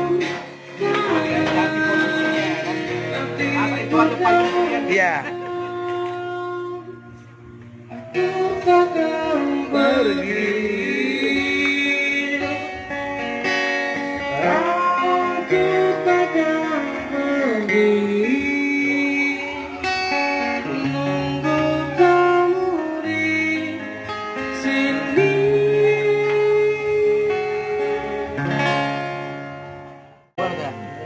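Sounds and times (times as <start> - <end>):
man singing long sliding notes: 0.0 - 12.9, 14.3 - 19.8, 20.5 - 28.1
guitar accompaniment: 0.0 - 31.0.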